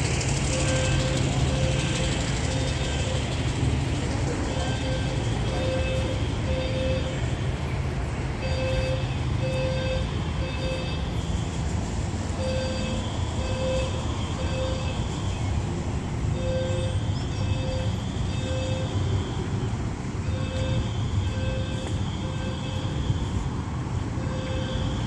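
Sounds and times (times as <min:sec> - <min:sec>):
steady low rumble: 0:00.0 - 0:25.0
fire alarm beeps: 0:00.4 - 0:07.4, 0:08.4 - 0:11.4, 0:12.3 - 0:15.7, 0:16.3 - 0:19.6, 0:20.2 - 0:23.5, 0:24.2 - 0:25.0.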